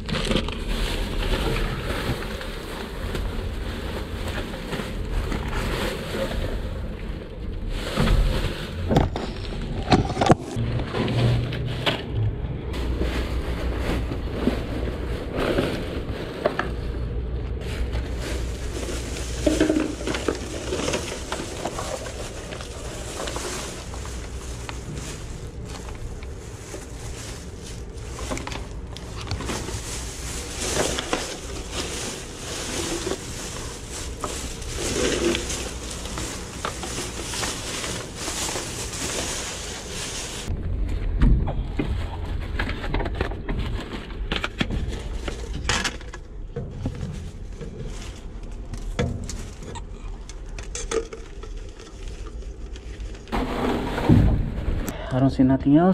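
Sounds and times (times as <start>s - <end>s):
plastic bags and paper rustling: 0.0s - 40.6s, 41.4s - 55.1s
steady low hum: 0.0s - 55.4s.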